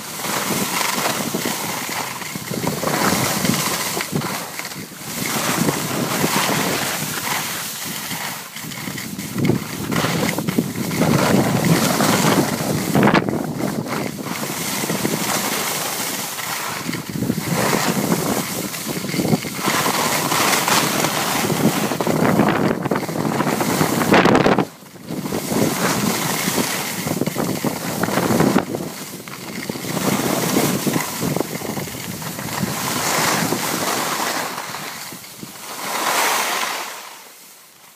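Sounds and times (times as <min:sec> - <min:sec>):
wind buffeting microphone: 0:00.0 - 0:35.8
skis scraping over snow: 0:00.0 - 0:37.9.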